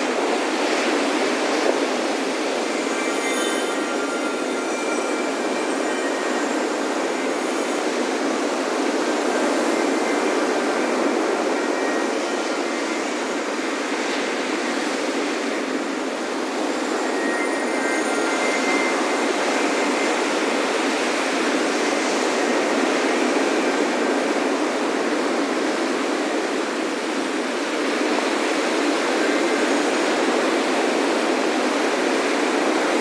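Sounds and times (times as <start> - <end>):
faint wind chimes: 0.0 - 33.0
ocean waves breaking on beach: 0.0 - 33.0.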